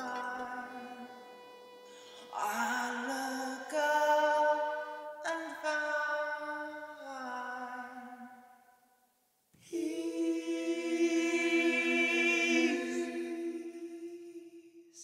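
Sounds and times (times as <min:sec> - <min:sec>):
a cappella voices singing: 0:00.0 - 0:08.3, 0:09.6 - 0:15.0.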